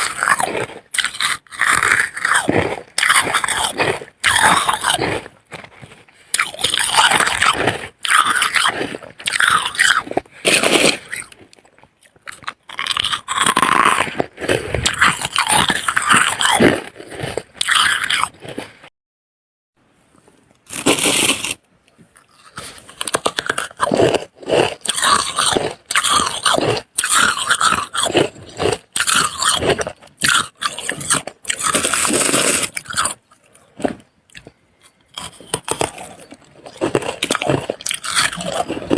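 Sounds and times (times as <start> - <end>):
crunching and chewing frost: 0.0 - 18.9, 20.1 - 38.9.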